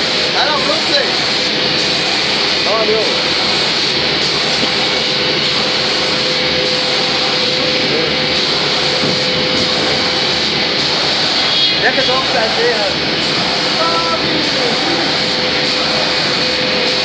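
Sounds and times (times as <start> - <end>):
air spray gun hissing: 0.0 - 17.0
machine hum: 0.0 - 17.0.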